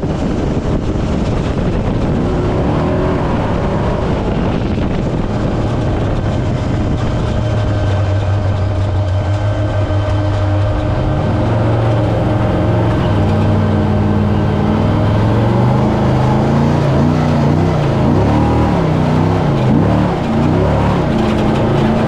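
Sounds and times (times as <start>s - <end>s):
truck engine droning: 0.0s - 22.0s
truck rattling over rough ground: 0.0s - 22.0s.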